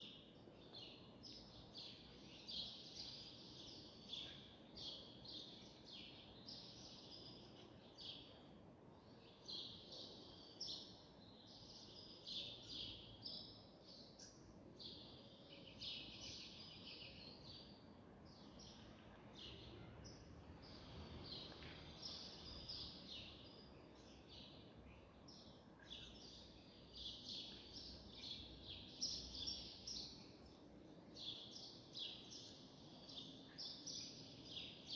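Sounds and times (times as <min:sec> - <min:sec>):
faint bird chirping: 0:00.0 - 0:34.9
low background hiss: 0:00.0 - 0:34.9.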